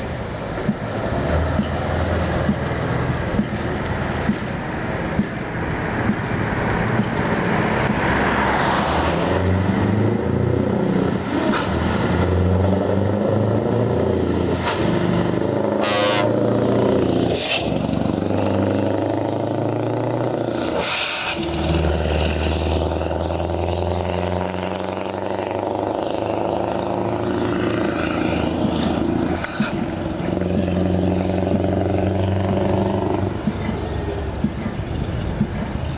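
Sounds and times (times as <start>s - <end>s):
truck diesel engine accelerating: 0.0s - 35.9s.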